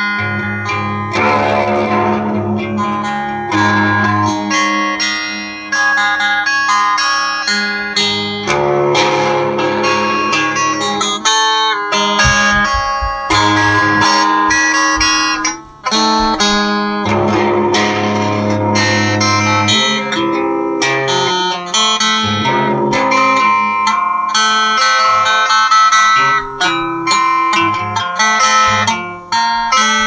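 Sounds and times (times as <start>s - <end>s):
plucked guitar music: 0.0s - 30.0s.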